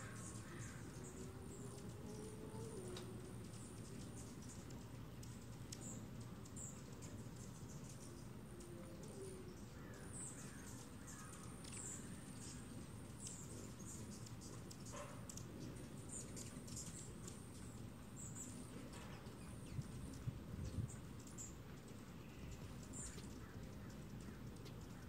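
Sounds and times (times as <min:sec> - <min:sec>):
hummingbird chip calls: 0:00.0 - 0:25.0
low steady hum: 0:00.0 - 0:25.0.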